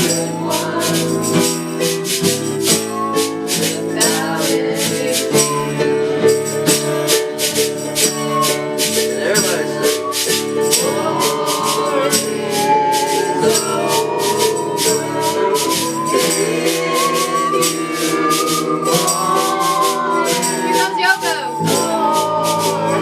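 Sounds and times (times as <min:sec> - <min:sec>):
held pitched notes: 0:00.0 - 0:23.0
percussion beat: 0:00.0 - 0:23.0.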